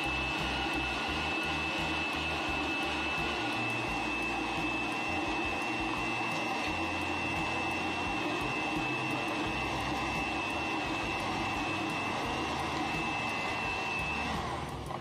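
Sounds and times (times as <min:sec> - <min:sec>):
electric blender motor running: 0:00.0 - 0:15.0.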